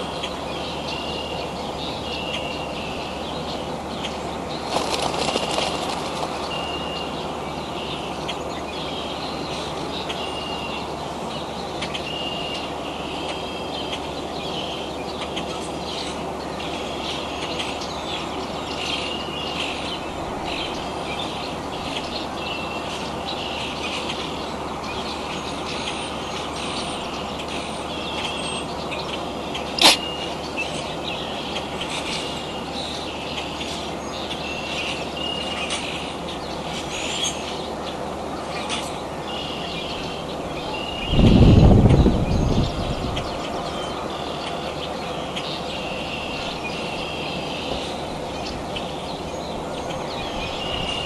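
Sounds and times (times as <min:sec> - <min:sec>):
bird chirping: 0:00.0 - 0:51.0
outdoor background noise: 0:00.0 - 0:51.0.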